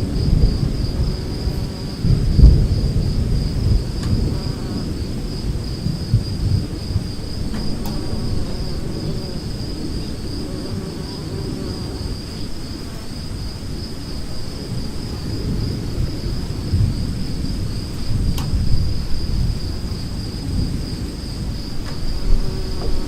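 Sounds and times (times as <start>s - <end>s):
crickets trilling: 0.0s - 23.0s
distant thunder rumbling: 0.0s - 23.0s.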